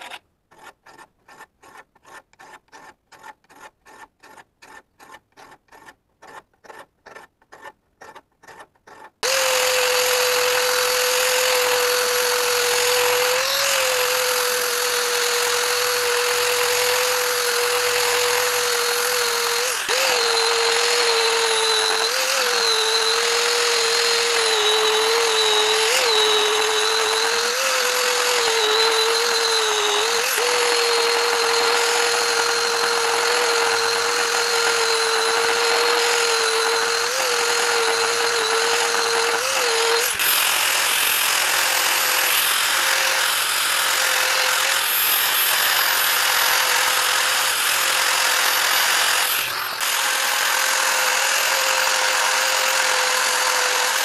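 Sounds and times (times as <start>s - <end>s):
hand file scraping iron: 0.0s - 50.6s
angle grinder on metal: 0.0s - 54.0s.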